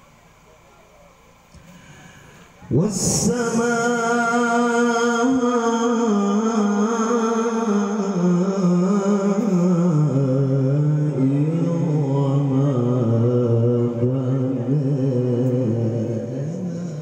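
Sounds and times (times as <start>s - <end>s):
man reciting melodically into microphone: 2.5s - 17.0s.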